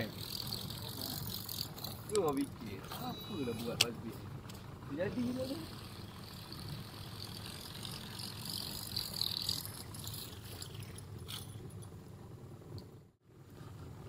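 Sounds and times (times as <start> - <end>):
fishing reel gears whirring: 0.0 - 11.9.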